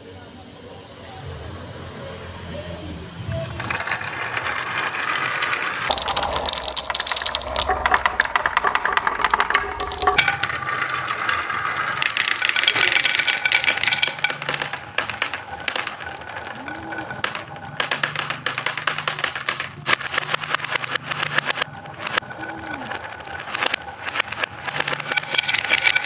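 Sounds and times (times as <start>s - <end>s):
marbles clattering down a track: 3.3s - 26.0s.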